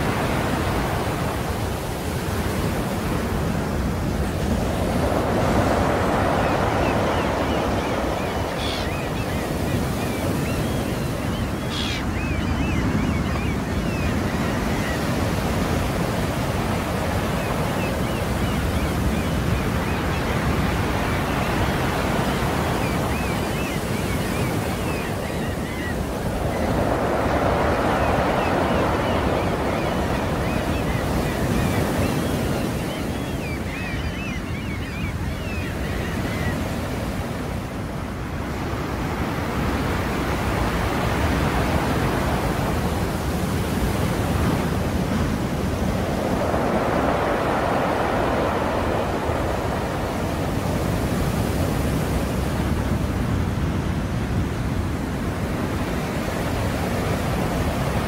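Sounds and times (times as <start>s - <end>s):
sea waves washing ashore: 0.0s - 58.0s.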